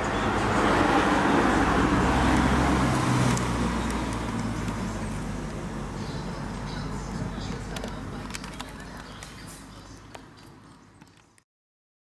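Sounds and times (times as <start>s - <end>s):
vehicle passing by: 0.0s - 10.8s.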